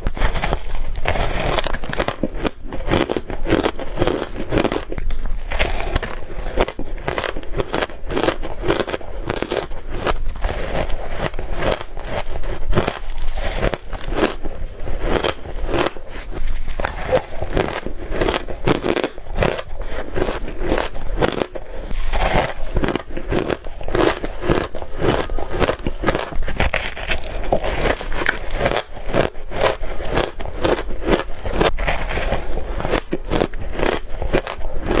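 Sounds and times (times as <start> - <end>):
crunching ice bars: 0.0 - 35.0.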